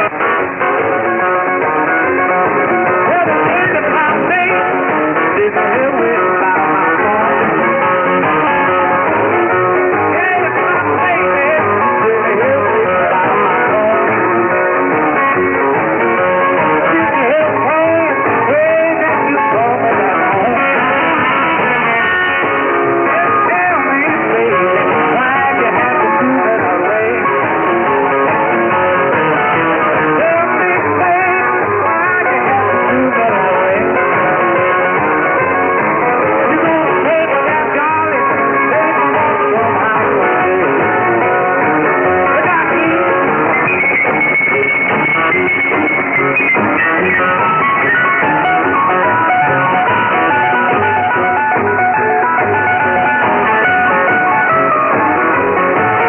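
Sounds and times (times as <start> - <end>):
rock music over radio: 0.0 - 56.0.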